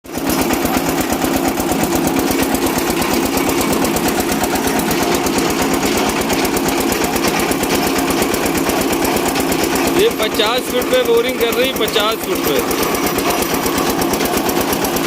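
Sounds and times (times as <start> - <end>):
diesel engine chugging: 0.1 - 15.0.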